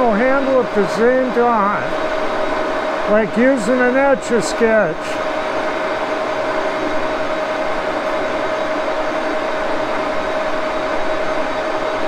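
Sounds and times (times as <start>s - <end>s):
lathe running with mechanical hum: 0.0s - 12.0s
steady mid-pitched whine: 0.0s - 12.0s.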